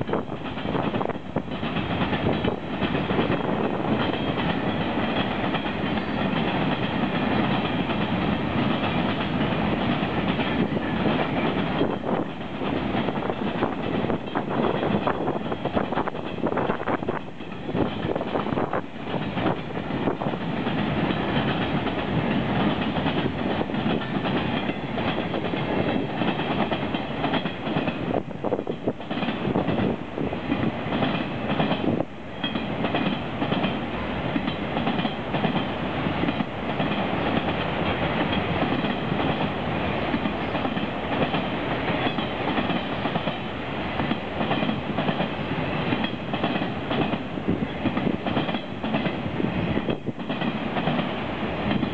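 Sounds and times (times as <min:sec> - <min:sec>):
train wheels clattering over rail joints: 0:00.0 - 0:51.9.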